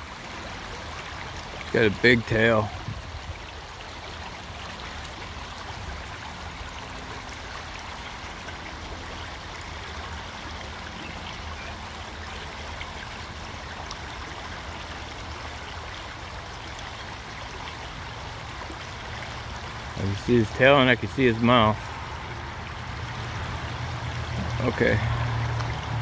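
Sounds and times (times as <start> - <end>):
creek water flowing over rocks: 0.0 - 26.0.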